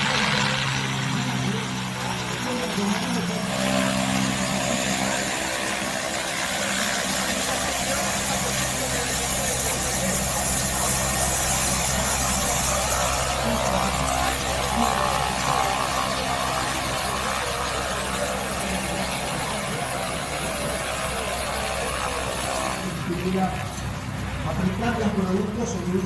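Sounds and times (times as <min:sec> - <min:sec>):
turboprop engine running: 0:00.0 - 0:26.0.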